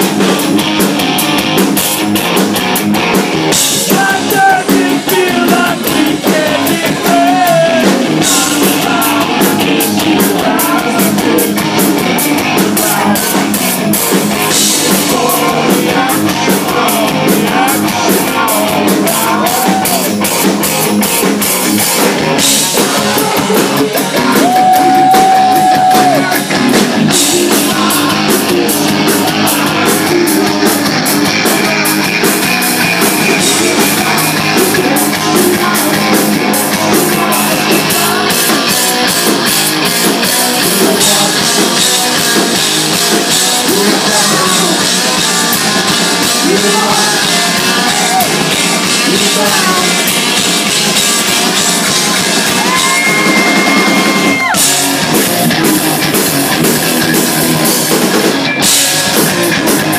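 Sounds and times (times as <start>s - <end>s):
drum kit pounding: 0.0s - 59.9s
hard rock band playing: 0.0s - 59.9s.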